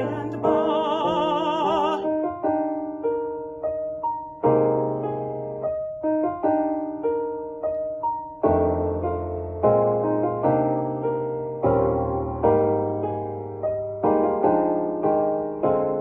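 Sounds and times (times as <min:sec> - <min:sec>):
solo piano chords: 0:00.0 - 0:16.0.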